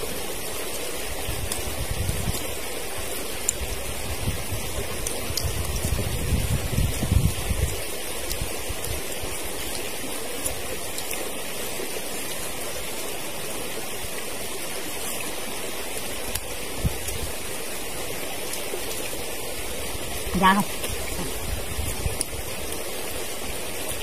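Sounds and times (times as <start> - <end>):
stream running: 0.0 - 24.0.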